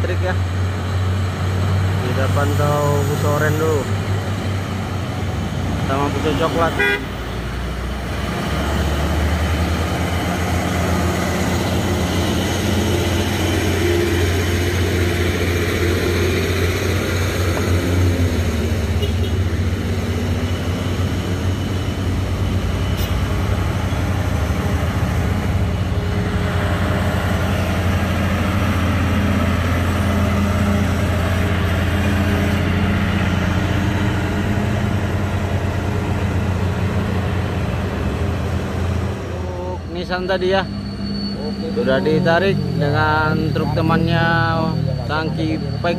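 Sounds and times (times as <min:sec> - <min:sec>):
heavy vehicle engine under load: 0:00.0 - 0:45.9.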